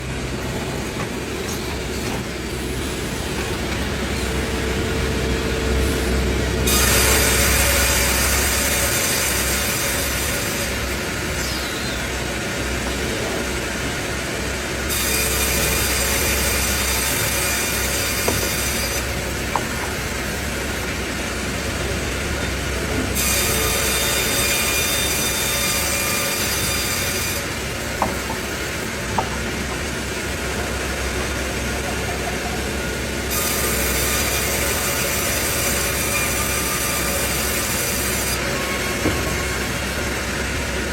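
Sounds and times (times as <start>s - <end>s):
low machine hum: 0.0s - 40.9s
sawmill saw cutting log: 0.0s - 40.9s.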